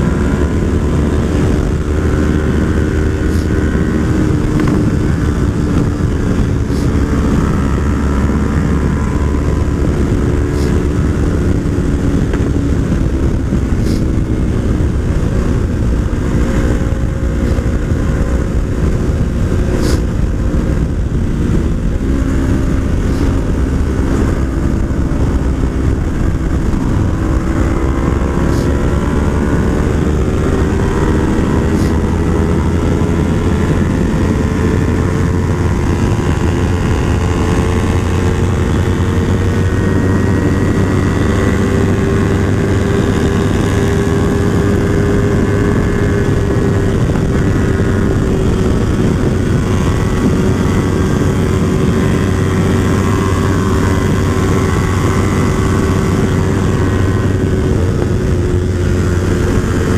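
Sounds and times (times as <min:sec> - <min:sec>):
heavy wind rush: 0:00.0 - 0:59.9
motorcycle engine at high revs: 0:00.0 - 0:59.9.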